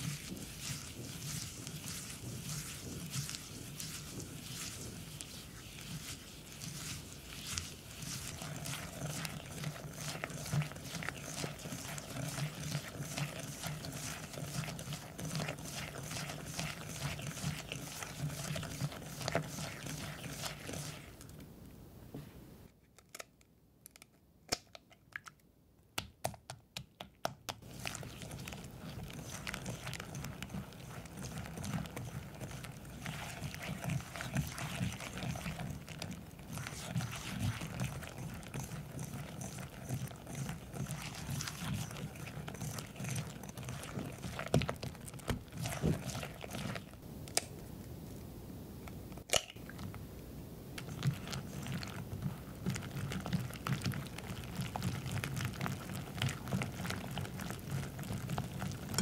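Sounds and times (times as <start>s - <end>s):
whisk scraping glass bowl: 0.0s - 21.3s, 27.6s - 47.0s, 50.8s - 59.0s.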